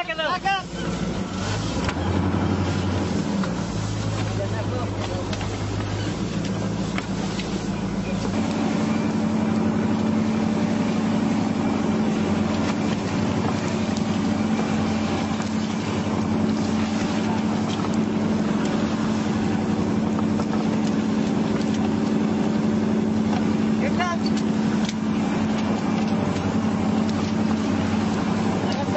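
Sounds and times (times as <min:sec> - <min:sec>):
boat engine droning: 0:00.0 - 0:28.9.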